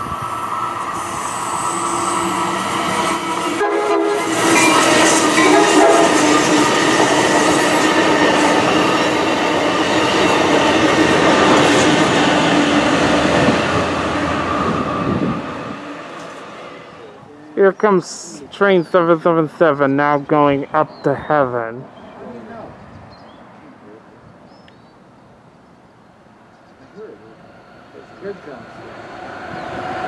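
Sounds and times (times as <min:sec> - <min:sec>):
passenger train passing: 0:00.0 - 0:23.6, 0:25.2 - 0:30.0.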